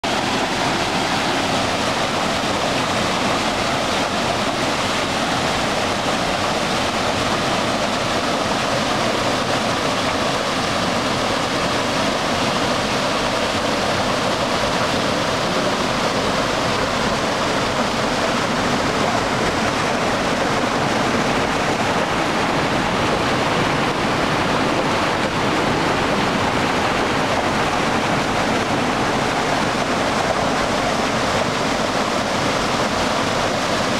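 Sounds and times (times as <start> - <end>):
stream rushing over waterfall: 0.0 - 33.9.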